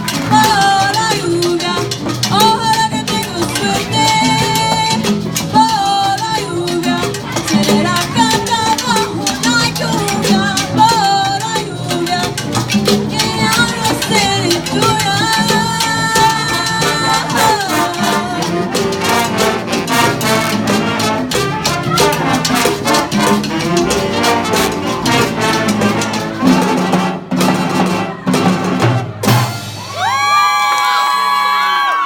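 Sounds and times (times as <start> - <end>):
jazz band with brass playing: 0.0 - 30.5
steady percussion: 0.0 - 31.2.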